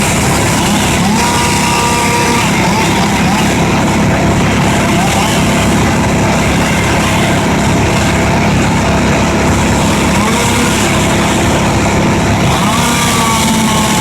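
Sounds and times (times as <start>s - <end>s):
wood chipper running: 0.0s - 14.0s.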